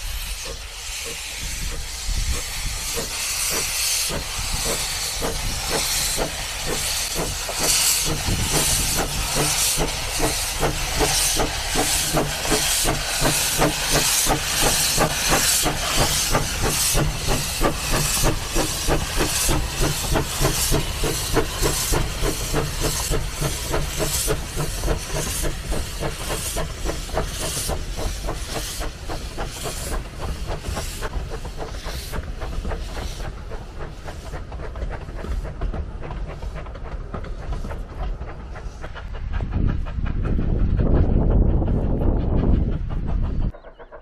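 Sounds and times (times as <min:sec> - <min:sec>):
steam hissing: 0:00.0 - 0:44.0
steam locomotive exhaust chuffs: 0:00.0 - 0:44.0.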